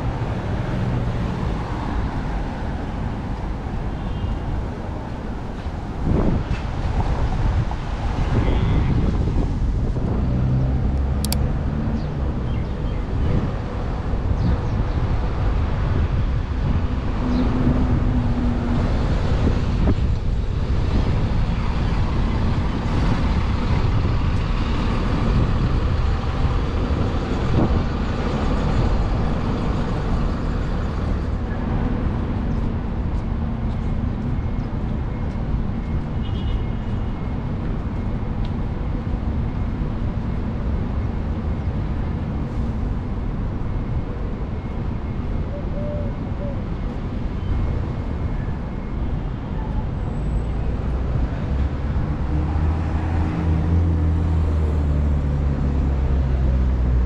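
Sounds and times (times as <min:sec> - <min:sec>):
city street traffic: 0:00.0 - 0:57.0.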